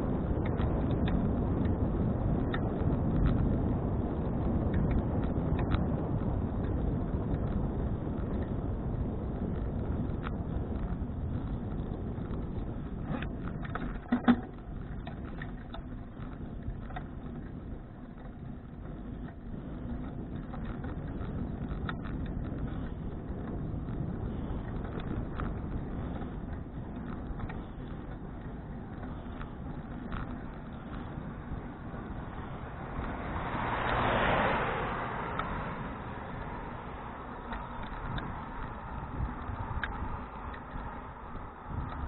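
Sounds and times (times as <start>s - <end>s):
bicycle tyres rumbling on road: 0.0s - 42.0s
wind on microphone: 0.0s - 42.0s.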